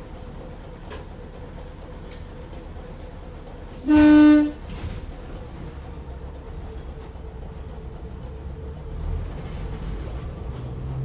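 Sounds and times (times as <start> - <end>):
railcar running rumble: 0.0 - 11.0.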